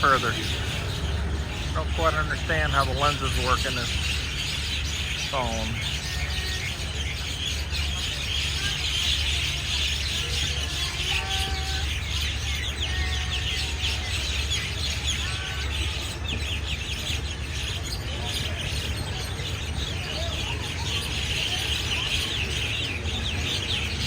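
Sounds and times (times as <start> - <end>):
flock of birds chirping: 0.0 - 24.0
steady low rumble: 0.0 - 24.0.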